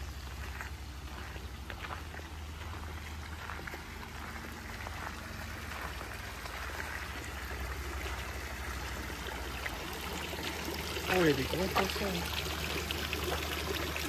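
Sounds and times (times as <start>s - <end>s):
water trickling and splashing: 0.0s - 14.0s.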